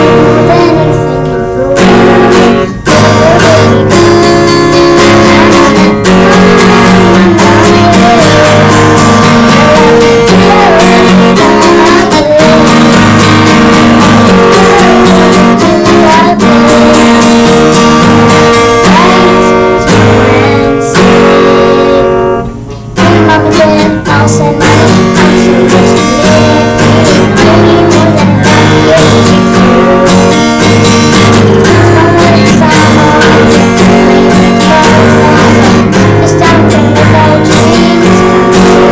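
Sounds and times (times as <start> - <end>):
acoustic guitar strumming: 0.0 - 38.9
girl singing: 0.0 - 38.9.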